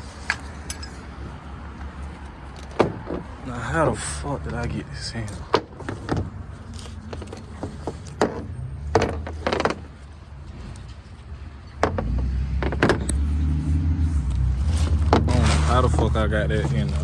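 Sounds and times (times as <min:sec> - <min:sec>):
vehicle engine starting and running: 0:00.0 - 0:17.0
clunks and rattles: 0:00.3 - 0:03.4, 0:05.2 - 0:17.0.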